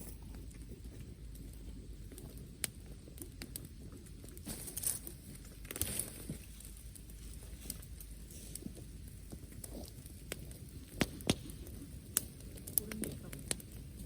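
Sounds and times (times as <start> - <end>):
rustle: 0.0 - 14.0
wood fire crackling: 0.0 - 14.0.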